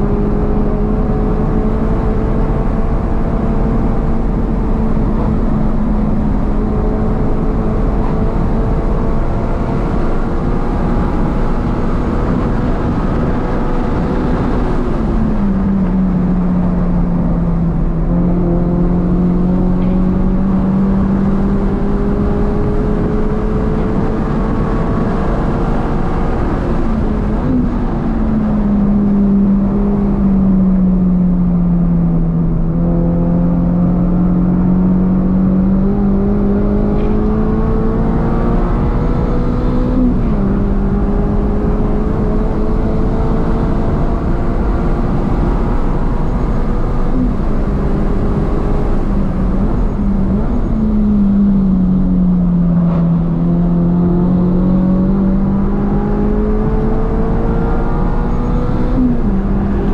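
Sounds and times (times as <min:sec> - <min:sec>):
car engine at high revs: 0:00.0 - 0:59.9
road and tyre noise: 0:00.0 - 0:59.9.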